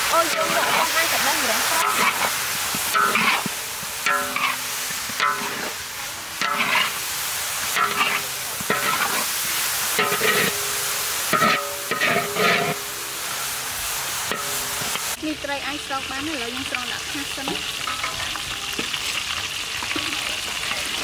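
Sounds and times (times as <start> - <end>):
metal spatula scraping a wok: 0.0 - 15.2, 17.5 - 20.1
food sizzling: 0.0 - 21.0.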